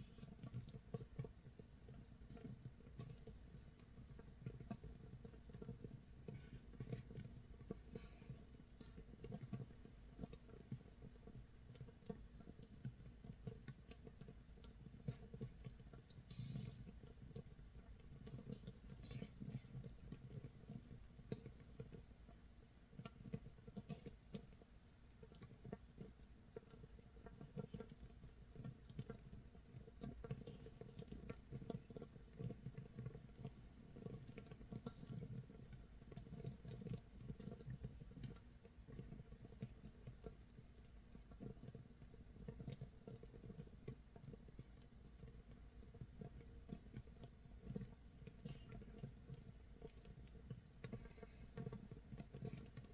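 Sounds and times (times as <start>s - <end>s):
fermenting mash bubbling: 0.0s - 52.9s.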